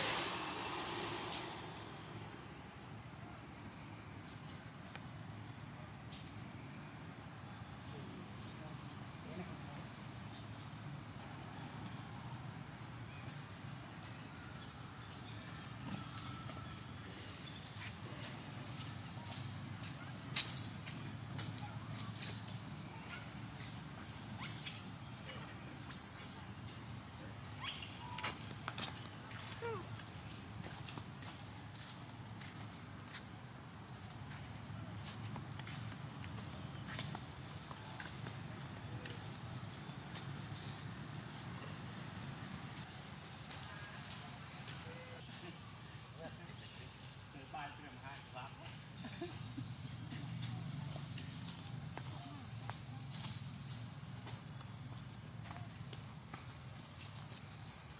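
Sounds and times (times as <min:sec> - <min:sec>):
insect chorus droning: 0:00.0 - 0:57.9.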